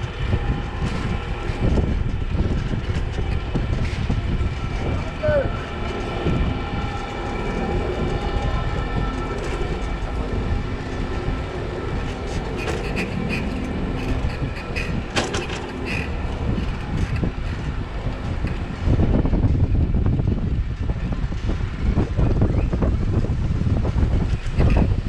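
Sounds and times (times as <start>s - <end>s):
electric tram whining: 0.0s - 25.0s
low rumble: 0.0s - 25.0s.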